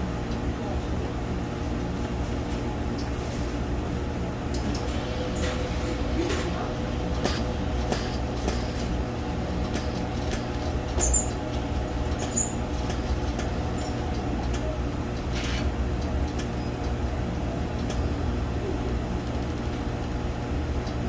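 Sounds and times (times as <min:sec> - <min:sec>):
welding machine humming: 0:03.0 - 0:21.0.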